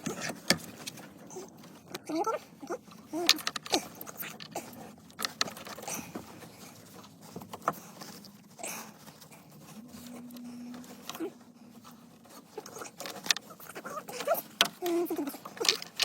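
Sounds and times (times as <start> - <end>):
faint low hum: 0.0 - 16.0
hands and tool on dashboard: 0.0 - 16.0.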